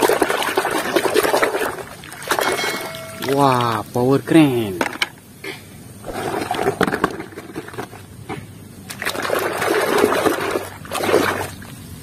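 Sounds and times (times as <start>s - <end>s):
water sloshing in a basin: 0.0s - 3.9s, 6.0s - 12.0s.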